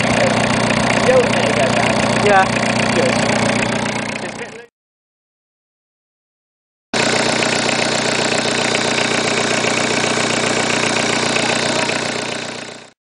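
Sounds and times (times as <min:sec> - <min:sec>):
car engine idling: 0:00.0 - 0:04.7, 0:07.0 - 0:13.0.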